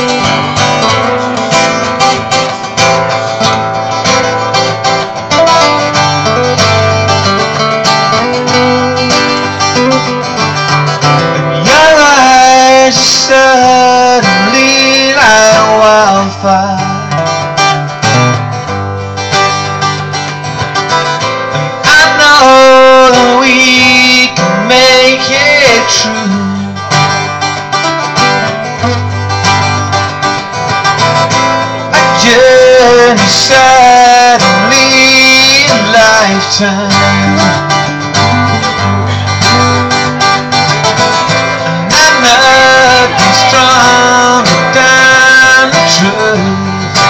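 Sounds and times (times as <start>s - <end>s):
acoustic guitars strumming: 0.0s - 47.0s.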